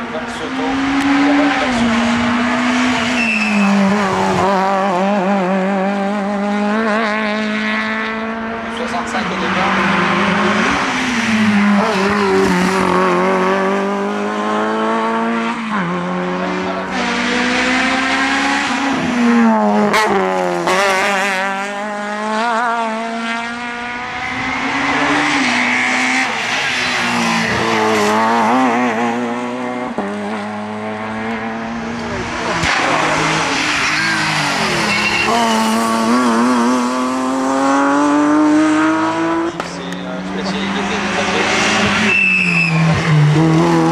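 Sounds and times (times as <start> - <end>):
race car engine pulling hard: 0.0 - 43.9.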